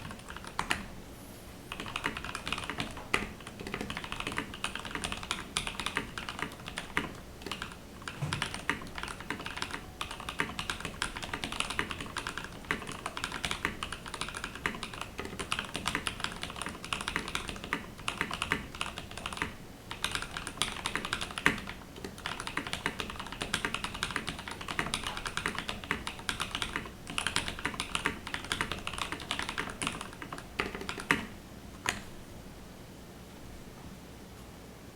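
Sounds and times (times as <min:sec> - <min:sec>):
mechanical keyboard typing: 0:00.0 - 0:00.9, 0:01.7 - 0:32.1.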